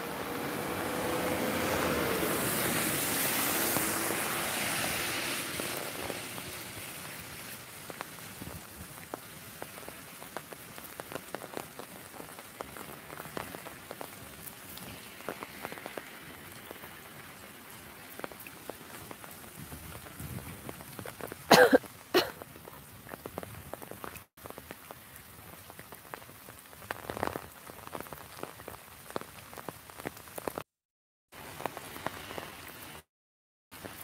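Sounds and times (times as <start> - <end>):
steady rain: 0.0 - 30.7, 31.3 - 33.1, 33.7 - 34.0.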